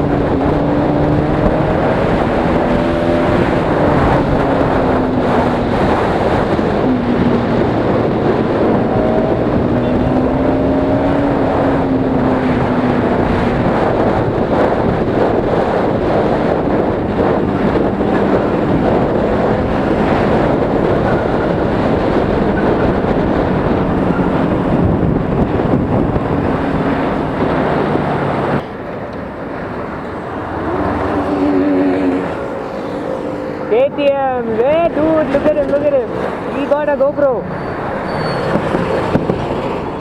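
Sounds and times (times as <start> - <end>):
wind rush on microphone: 0.0 - 40.0.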